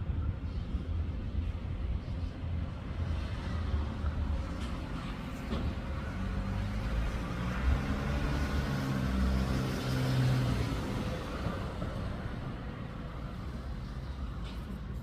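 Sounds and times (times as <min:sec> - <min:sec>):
car passing by: 0:02.9 - 0:15.0.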